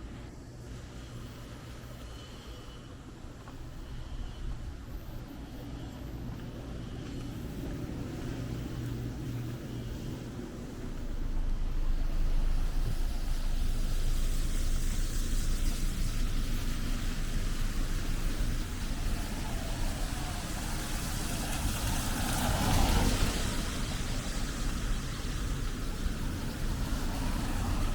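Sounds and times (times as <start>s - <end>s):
vehicles driving past: 5.0s - 27.9s.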